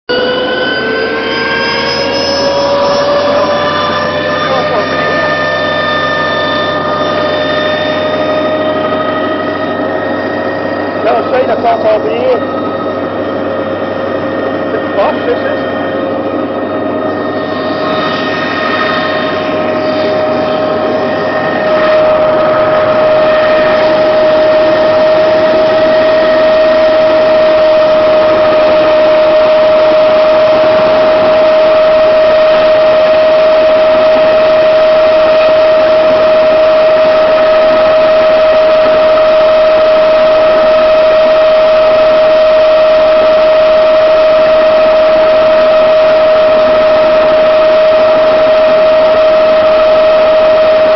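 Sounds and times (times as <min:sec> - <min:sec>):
helicopter engine and rotor whine: 0:00.1 - 0:50.9.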